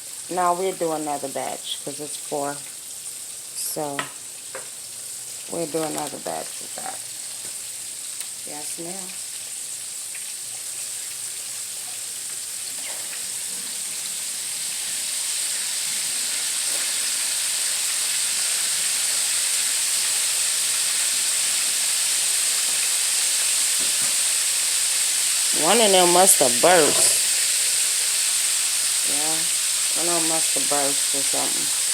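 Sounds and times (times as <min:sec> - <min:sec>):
chicken wings deep frying in oil: 0:00.0 - 0:31.9.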